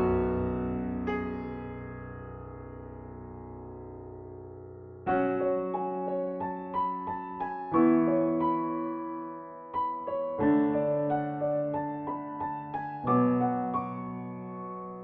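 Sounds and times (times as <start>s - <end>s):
piano-like keyboard music: 0.0s - 15.0s.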